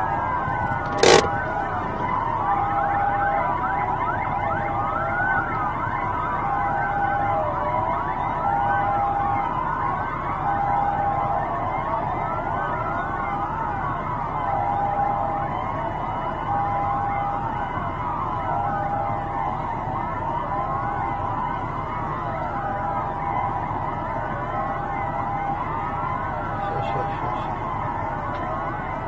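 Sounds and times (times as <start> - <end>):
police sirens wailing: 0.0 - 29.0
steady siren tone: 0.0 - 29.0.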